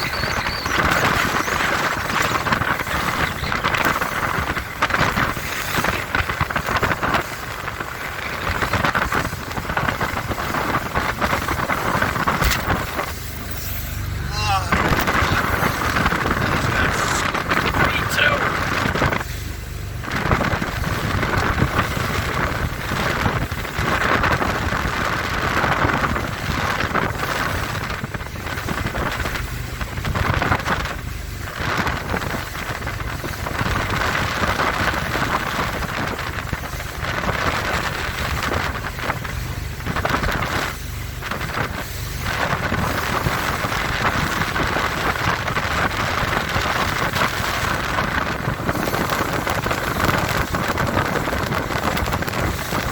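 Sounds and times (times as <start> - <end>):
powerboat engine: 0.0 - 52.9
water rushing along hull: 0.0 - 52.9
wind noise on microphone: 0.0 - 52.9.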